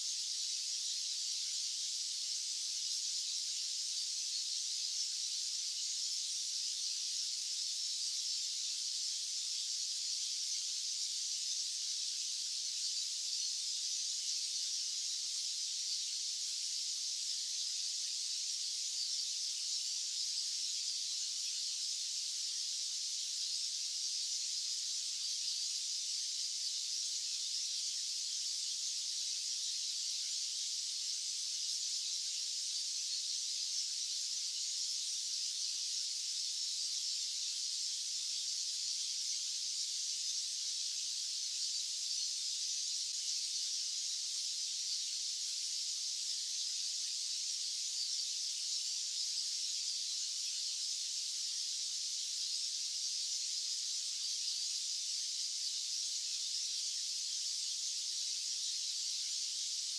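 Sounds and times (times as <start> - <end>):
high-pitched white noise hiss: 0.0 - 59.9.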